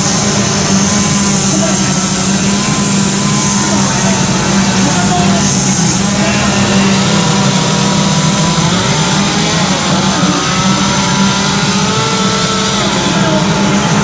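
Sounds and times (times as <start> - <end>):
chainsaws cutting wood: 0.0 - 14.0.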